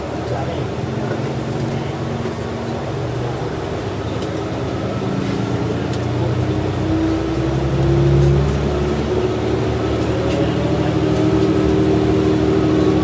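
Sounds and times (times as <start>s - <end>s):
diesel railcar engine accelerating: 0.0s - 13.0s.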